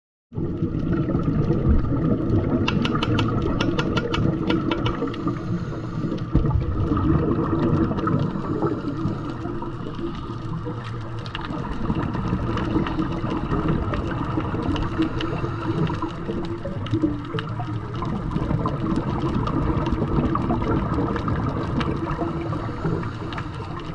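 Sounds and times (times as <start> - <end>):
underwater rumble: 0.3 - 23.9
crackling bubble clicks: 0.4 - 23.9.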